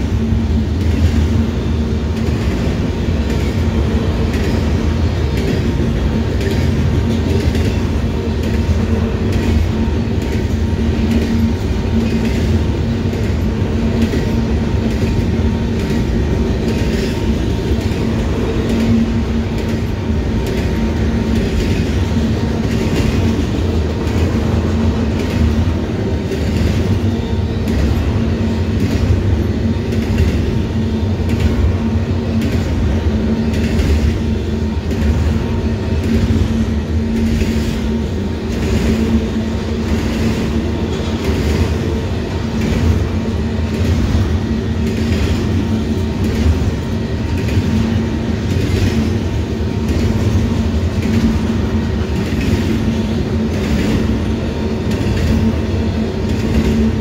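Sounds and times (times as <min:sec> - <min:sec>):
freight train rumbling past: 0:00.0 - 0:57.0
wheels clicking over rail joints: 0:00.0 - 0:57.0.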